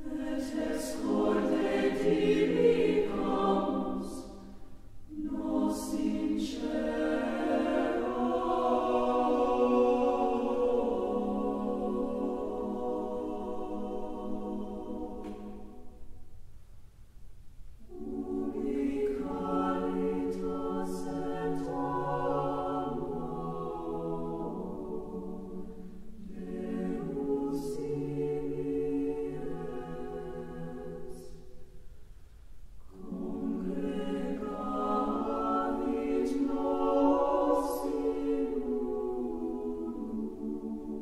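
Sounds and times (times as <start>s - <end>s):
choir singing slow phrases: 0.0s - 16.6s, 17.7s - 41.0s.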